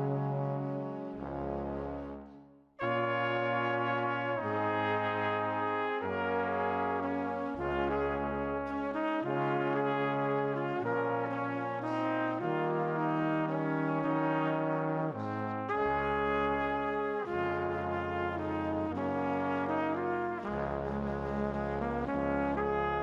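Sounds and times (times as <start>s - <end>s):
sustained brass chords: 0.0s - 23.0s.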